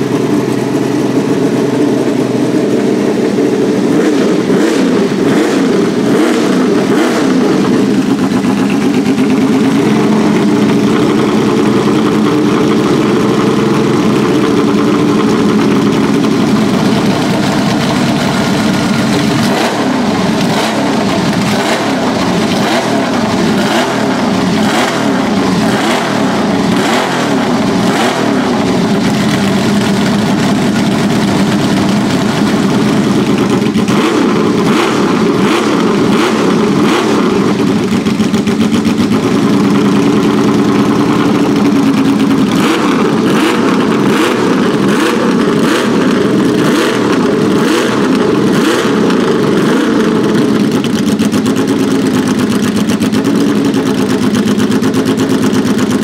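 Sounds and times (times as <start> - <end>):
racing engine idling and revving: 0.0 - 56.0.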